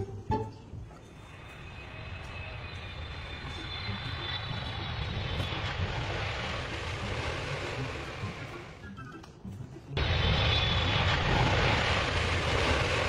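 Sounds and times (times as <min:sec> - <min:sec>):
airplane passing overhead: 0:00.0 - 0:13.0
faint high engine whine: 0:00.0 - 0:13.0.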